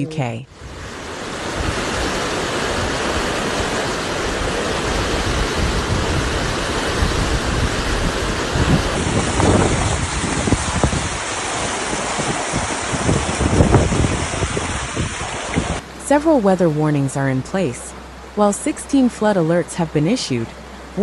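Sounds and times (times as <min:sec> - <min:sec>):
storm wind and water rushing: 0:00.0 - 0:21.0.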